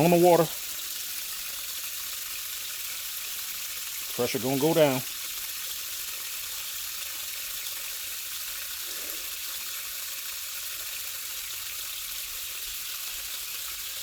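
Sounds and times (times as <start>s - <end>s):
water running from tap: 0.0s - 14.0s.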